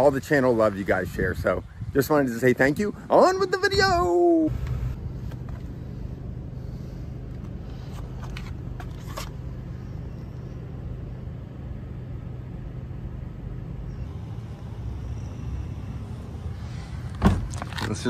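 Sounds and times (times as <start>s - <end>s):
vehicle engine idling: 1.6s - 18.0s.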